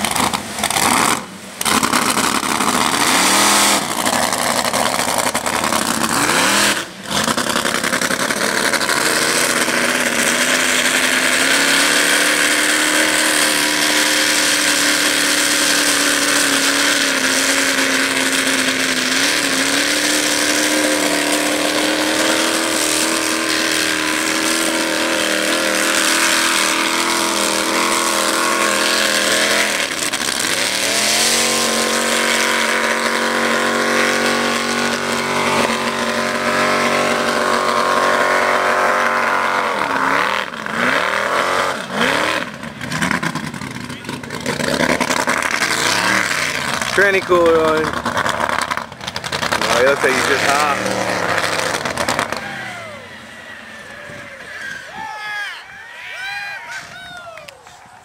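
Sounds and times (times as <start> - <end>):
truck engine revving high: 0.0 - 55.2.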